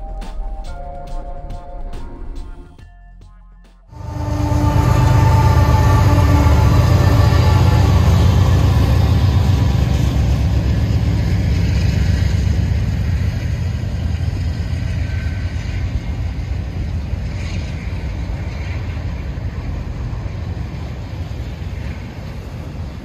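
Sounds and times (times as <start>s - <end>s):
freight train rumbling on rails: 0.0s - 2.9s, 3.9s - 23.0s.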